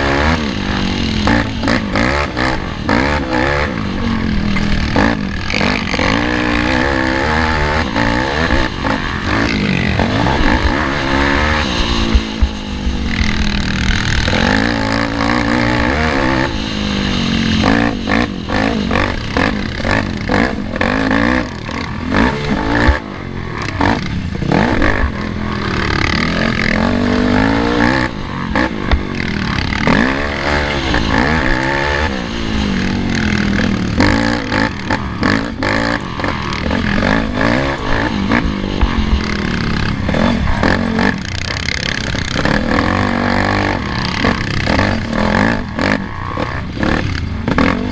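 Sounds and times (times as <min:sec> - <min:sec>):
small atv engine revving: 0:00.0 - 0:47.9.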